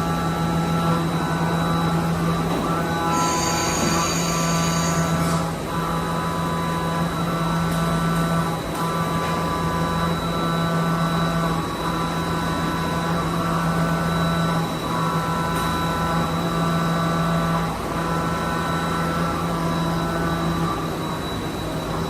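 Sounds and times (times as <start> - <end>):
machine hum and whine: 0.0 - 22.0.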